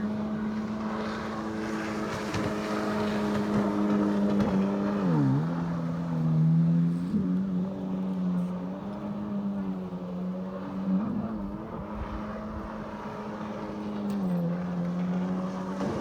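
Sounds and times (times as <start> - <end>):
watercraft engine running: 0.0 - 16.0.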